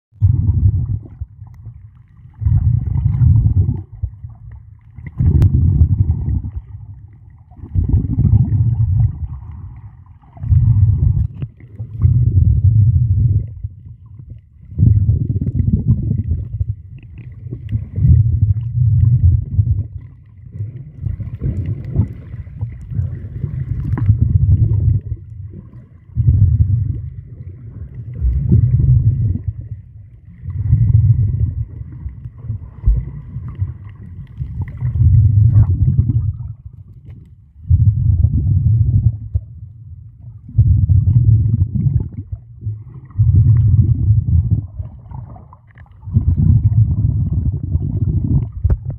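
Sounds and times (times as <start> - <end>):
muffled underwater rumbling: 0.1 - 48.9.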